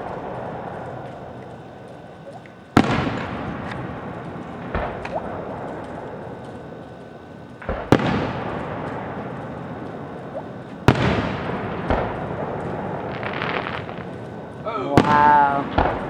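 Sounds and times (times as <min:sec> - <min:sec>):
fireworks shells bursting: 0:00.0 - 0:16.0
rolling rumble: 0:00.0 - 0:16.0.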